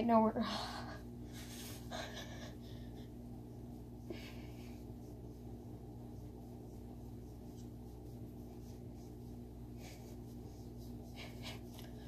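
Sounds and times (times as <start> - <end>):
faint low room hum: 0.0 - 12.0.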